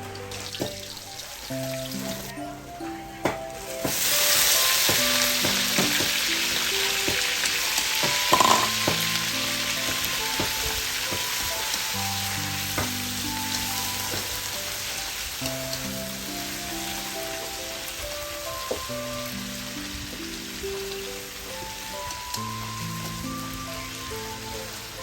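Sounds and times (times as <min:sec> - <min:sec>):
food sizzling in hot oil: 0:00.0 - 0:02.4, 0:03.0 - 0:25.0.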